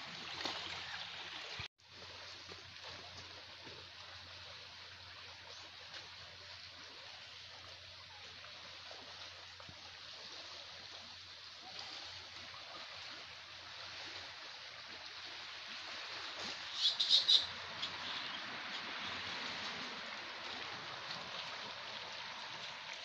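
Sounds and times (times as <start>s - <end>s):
water lapping on rocky shore: 0.0s - 23.0s.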